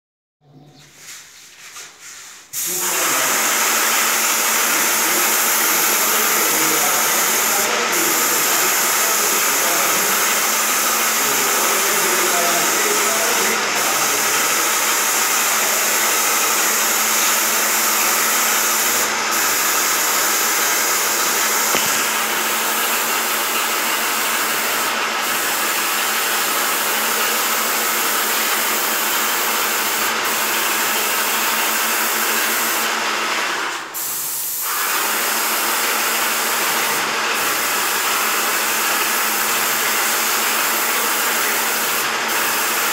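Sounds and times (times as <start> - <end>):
paint sprayer hissing: 0.8 - 42.9.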